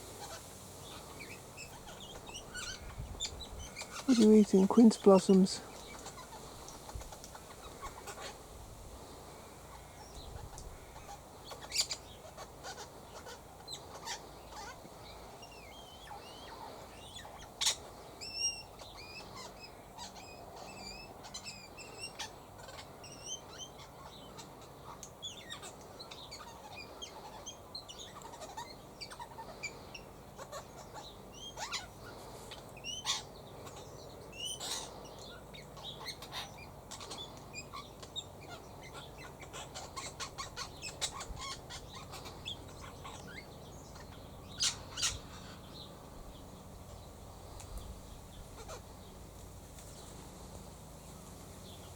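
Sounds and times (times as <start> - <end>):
sharp bird calls: 0.0 - 8.6, 9.6 - 49.2
birds twittering: 0.0 - 51.9.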